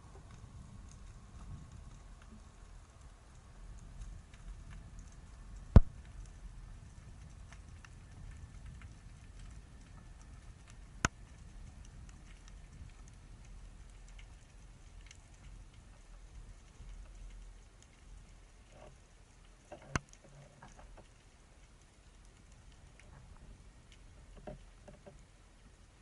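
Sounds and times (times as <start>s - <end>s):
faint crackle of small ticks: 0.0s - 26.0s
underwater low rumble: 0.0s - 26.0s.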